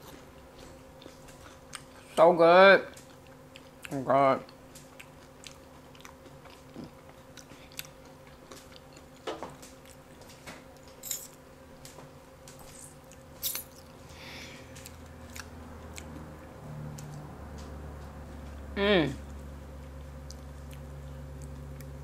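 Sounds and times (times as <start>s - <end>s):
chewing and biting fried fish: 0.0s - 2.2s, 2.9s - 10.2s, 12.9s - 22.0s.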